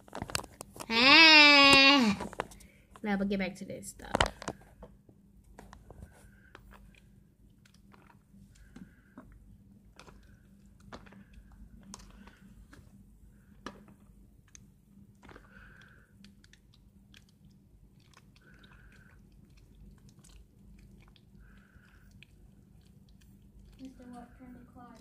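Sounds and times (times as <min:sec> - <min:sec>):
hands kneading wet slime: 0:04.0 - 0:25.0.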